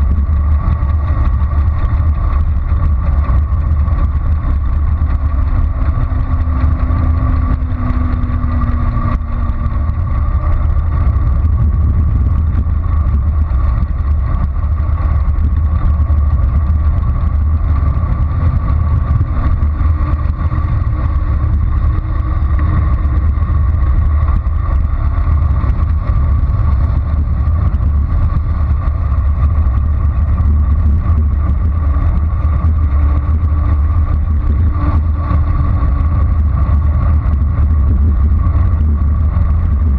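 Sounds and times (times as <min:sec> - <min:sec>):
faint steady whine: 0:00.0 - 0:39.9
wind buffeting microphone: 0:00.0 - 0:39.9.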